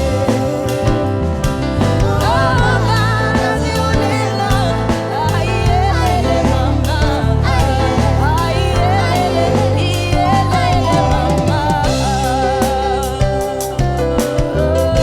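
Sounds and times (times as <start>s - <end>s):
live soul band playing: 0.0s - 15.0s
person singing: 0.0s - 15.0s.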